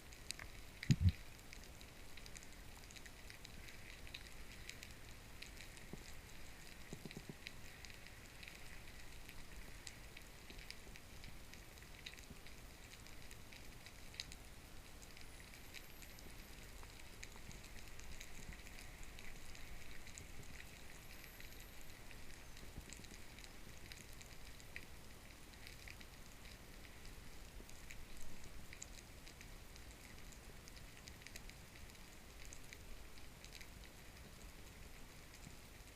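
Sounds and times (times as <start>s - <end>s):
underwater crackling and fizzing: 0.0s - 35.9s
sharp underwater clicks: 0.1s - 35.9s.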